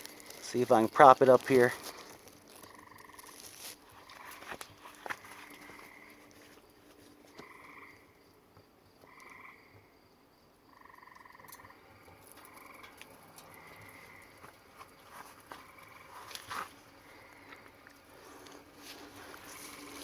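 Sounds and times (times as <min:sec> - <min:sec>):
faint frog trilled calls: 0:00.0 - 0:06.6, 0:07.3 - 0:08.2, 0:09.0 - 0:10.0, 0:10.7 - 0:18.6, 0:19.2 - 0:20.0.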